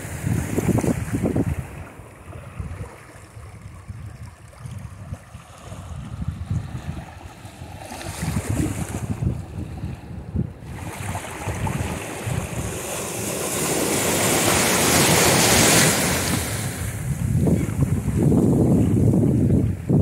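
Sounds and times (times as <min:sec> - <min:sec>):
waves washing up shore: 0:00.0 - 0:20.0
wind buffeting microphone: 0:00.0 - 0:20.0.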